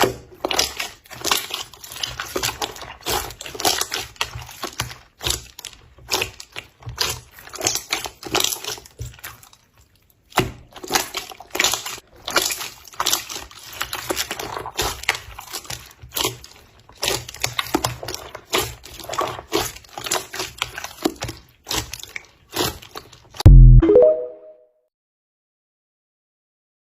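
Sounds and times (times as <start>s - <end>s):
slime squished by hand: 0.0s - 24.2s.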